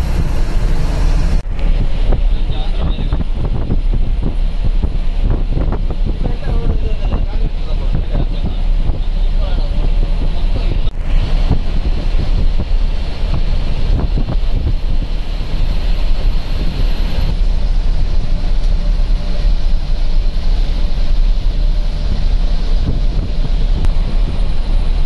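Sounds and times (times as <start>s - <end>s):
bus engine and road rumble: 0.0s - 25.0s
rushing wind hiss: 0.0s - 25.0s.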